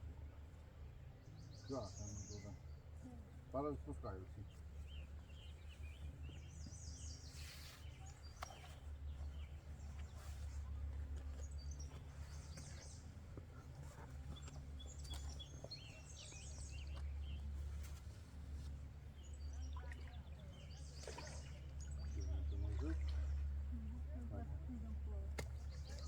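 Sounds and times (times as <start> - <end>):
small birds chirping: 1.0 - 24.2, 24.8 - 26.0.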